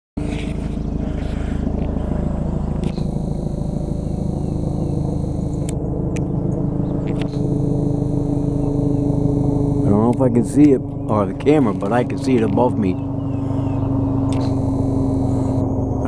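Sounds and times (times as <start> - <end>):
helicopter rotor beat: 0.2 - 16.0.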